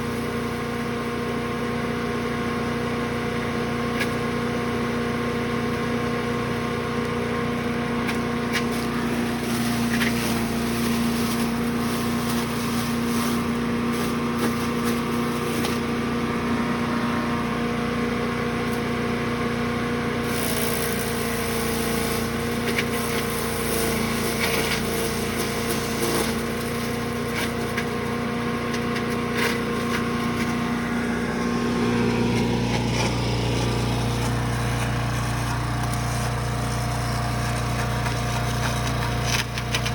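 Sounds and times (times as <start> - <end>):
wood chipper engine droning: 0.0 - 39.9.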